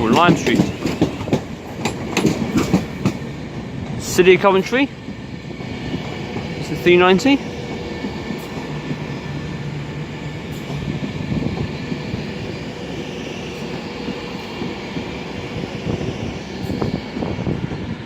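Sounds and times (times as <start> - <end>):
train traction noise: 0.0 - 18.0
train wheels rumbling on rails: 0.0 - 18.0.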